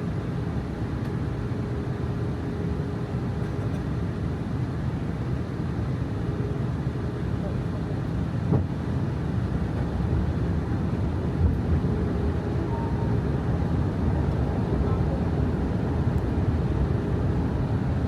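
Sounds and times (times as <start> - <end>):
jet cabin rumble: 0.5 - 18.0.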